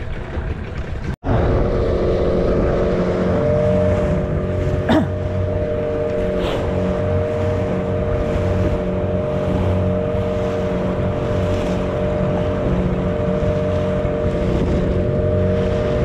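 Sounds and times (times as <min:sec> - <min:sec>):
boat engine running: 0:00.0 - 0:16.0
water rushing past hull: 0:00.0 - 0:16.0.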